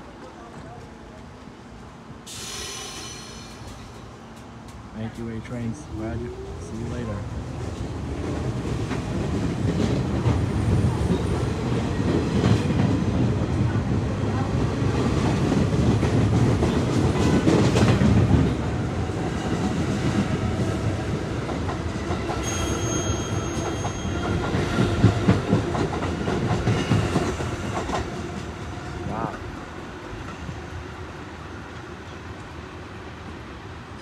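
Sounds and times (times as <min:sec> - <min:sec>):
subway train wheels on rails: 0:00.0 - 0:34.0.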